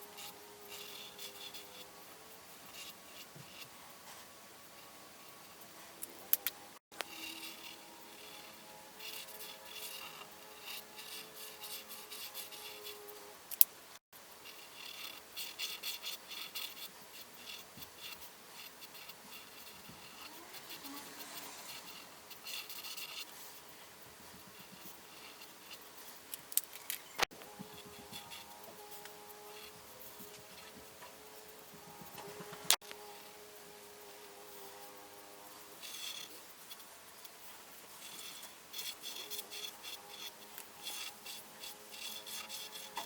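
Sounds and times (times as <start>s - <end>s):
coloring strokes scratching on paper: 0.0s - 13.4s, 14.2s - 26.4s, 27.2s - 43.0s.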